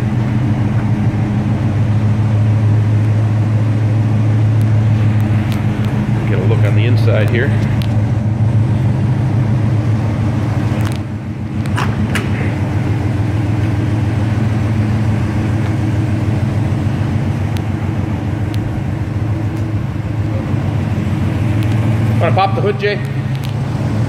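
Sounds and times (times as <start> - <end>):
pickup engine idling: 0.0 - 24.0.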